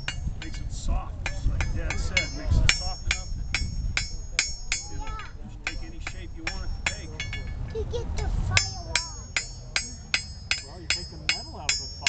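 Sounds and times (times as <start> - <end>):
hammer striking metal on anvil: 0.0 - 7.7, 8.6 - 12.0.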